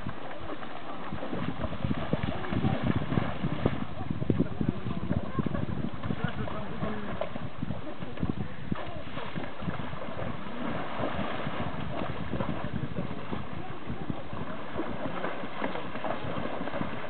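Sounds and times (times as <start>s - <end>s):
horses splashing through water: 0.0s - 17.0s.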